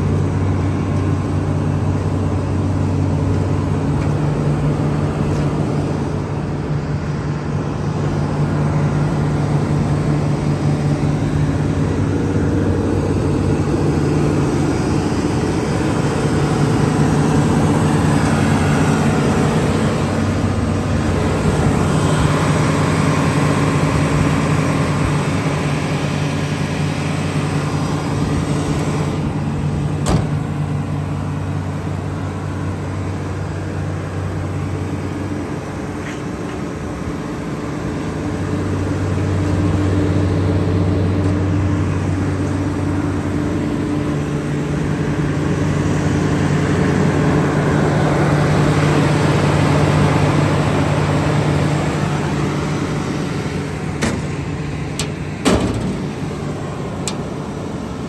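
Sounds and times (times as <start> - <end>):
excavator diesel engine idling: 0.0 - 58.0.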